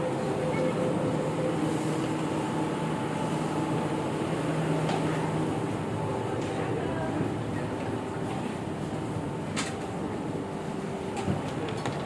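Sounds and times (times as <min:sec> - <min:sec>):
train carriage humming: 0:00.0 - 0:12.0.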